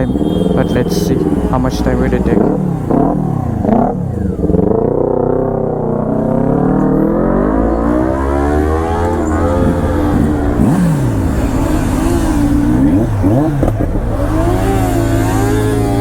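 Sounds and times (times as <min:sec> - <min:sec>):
engine notes sweeping up and down: 0:00.0 - 0:16.0
motorcycle engines running: 0:00.0 - 0:16.0.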